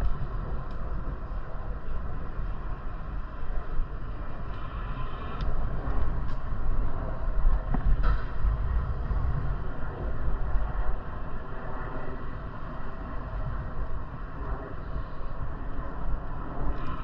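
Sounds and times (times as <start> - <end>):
bicycle road noise rumbling: 0.0 - 17.0
wind rushing over microphone: 0.0 - 17.0.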